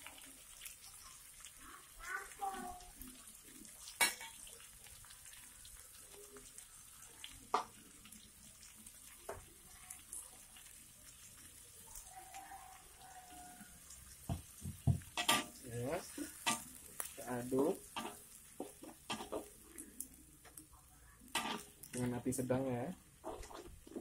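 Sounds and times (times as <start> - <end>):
onion sizzling in hot oil: 0.0 - 24.0.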